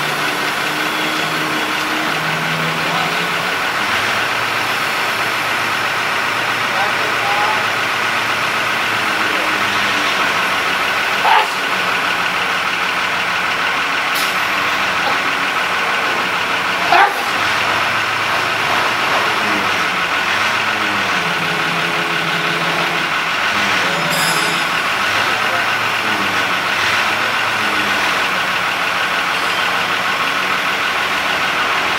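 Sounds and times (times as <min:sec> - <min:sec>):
crane engine running: 0:00.0 - 0:31.9.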